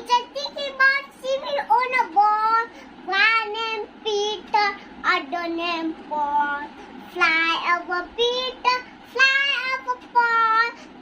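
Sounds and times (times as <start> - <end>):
child singing: 0.0 - 10.8.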